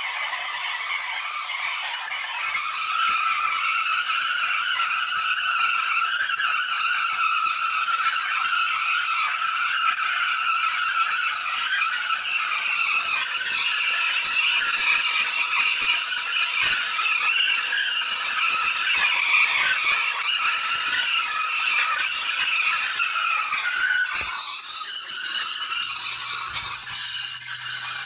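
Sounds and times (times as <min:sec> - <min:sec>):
tesla coil arcs hissing and buzzing: 0:00.0 - 0:28.0.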